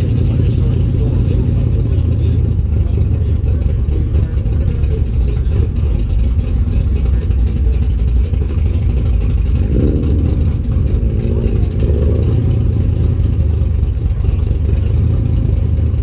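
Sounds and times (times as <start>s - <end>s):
truck engine exhaust rumble: 0.0s - 16.0s.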